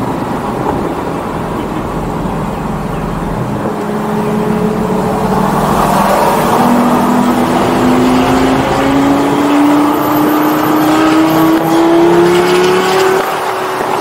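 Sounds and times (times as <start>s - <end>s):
sports car engine revving under load: 0.6s - 13.9s.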